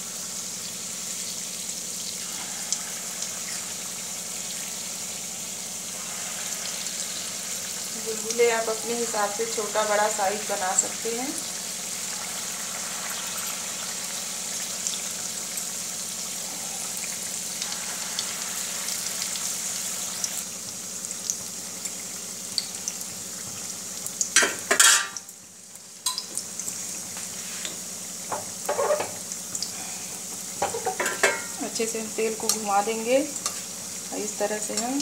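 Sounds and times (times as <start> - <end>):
batter deep-frying in oil: 0.0 - 35.0.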